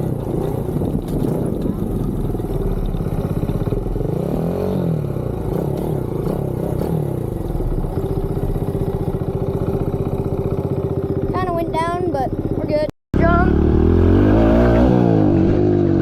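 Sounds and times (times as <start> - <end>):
dirt bike engine revving: 0.0 - 11.5, 13.2 - 16.0.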